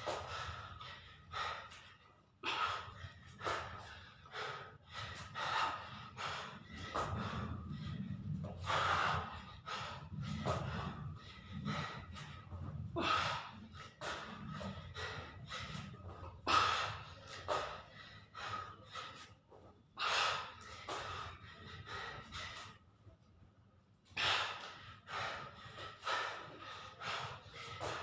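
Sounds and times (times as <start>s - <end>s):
man gasping breath: 0.0s - 22.8s, 24.1s - 28.0s
man breathing hard: 0.0s - 23.3s, 24.0s - 28.0s.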